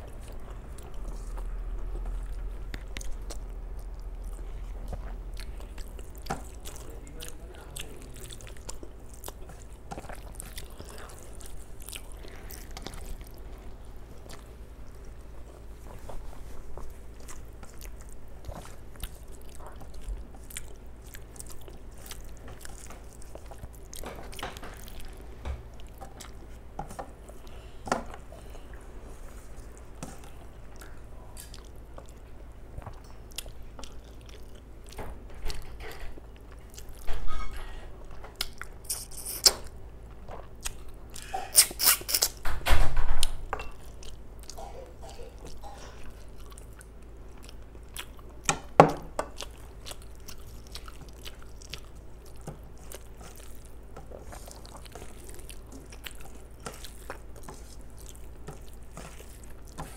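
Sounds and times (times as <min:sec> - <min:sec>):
chewing and wet mouth sounds: 0:00.0 - 0:37.1, 0:38.0 - 0:42.4, 0:43.6 - 0:59.9.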